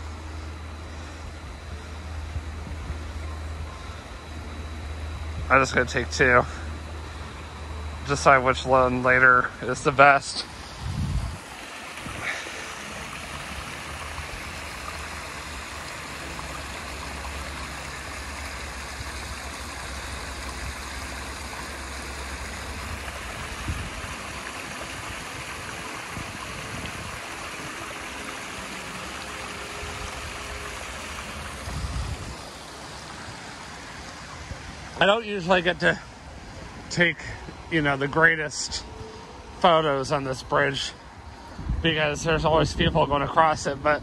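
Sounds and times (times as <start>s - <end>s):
stream water rushing: 4.8s - 42.4s.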